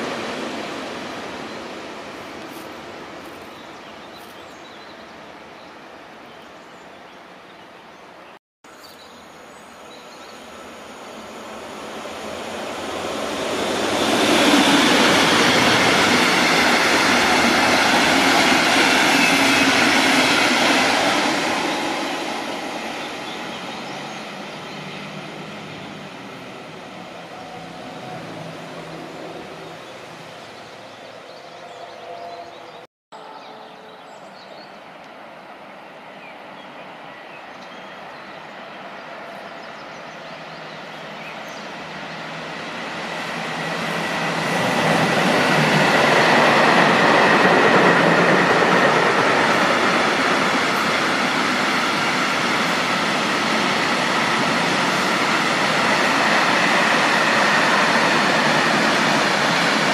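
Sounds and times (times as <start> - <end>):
freight train rolling past: 0.0 - 5.5, 9.4 - 33.6, 35.2 - 59.9
distant train: 0.0 - 59.9.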